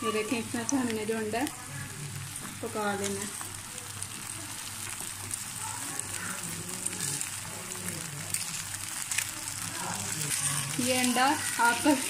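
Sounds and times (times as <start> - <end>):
eggs sizzling in a frying pan: 0.0 - 12.0.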